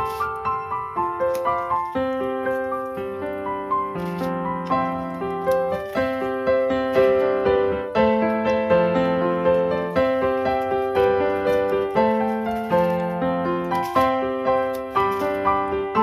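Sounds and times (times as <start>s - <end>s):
piano playing notes: 0.0s - 16.0s.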